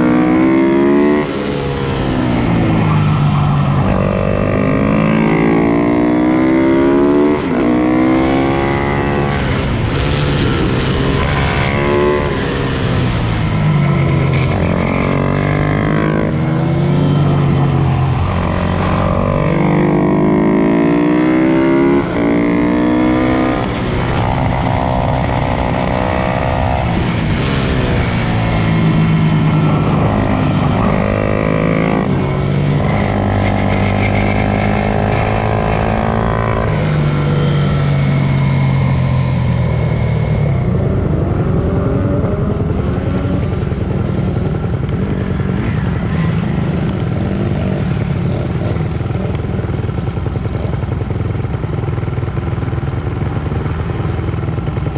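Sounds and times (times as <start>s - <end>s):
motorcycle engines revving: 0.0s - 54.9s.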